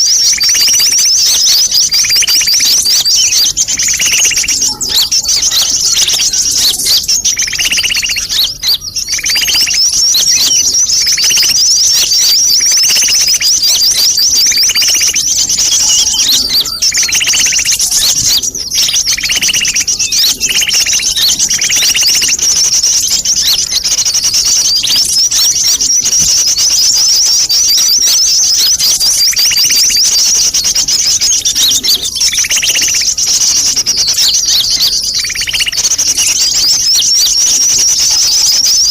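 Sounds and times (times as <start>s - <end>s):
birds twittering chorus: 0.0s - 38.9s
lower bird chirp: 0.0s - 38.9s.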